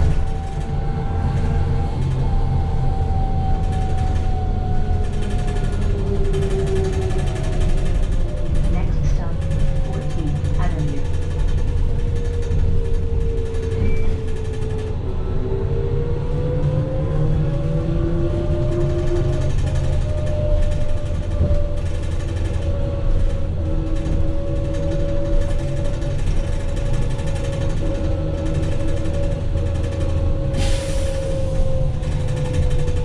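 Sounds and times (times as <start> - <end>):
low road rumble: 0.0 - 33.0.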